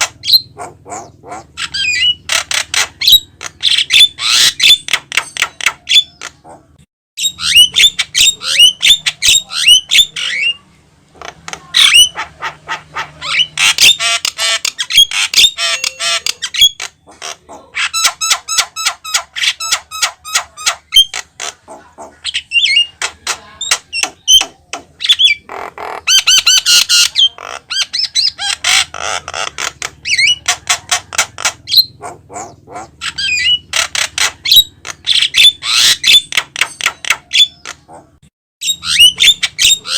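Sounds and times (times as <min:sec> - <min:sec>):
myna bird chattering and whistling: 0:00.0 - 0:39.9.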